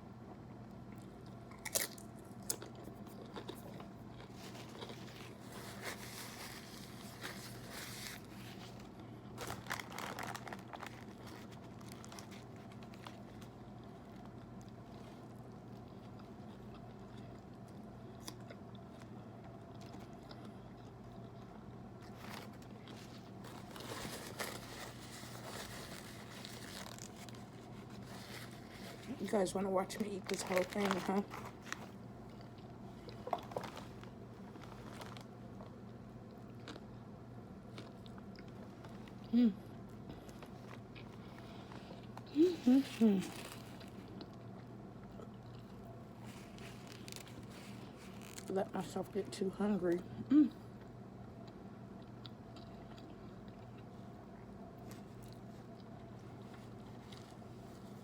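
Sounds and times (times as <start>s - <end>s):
sandwich chewing and crunching: 0.2s - 48.5s, 50.7s - 58.0s.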